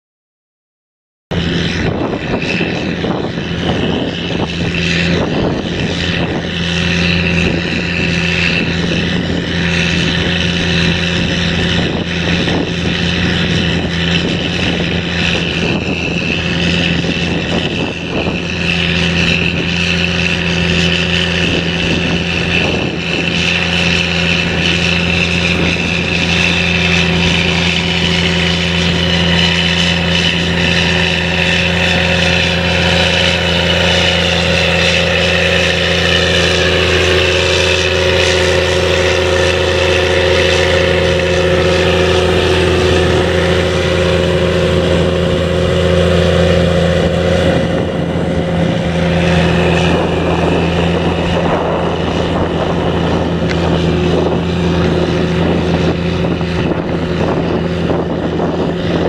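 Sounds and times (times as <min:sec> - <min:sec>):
tractor diesel engine under load: 0:01.3 - 0:59.0.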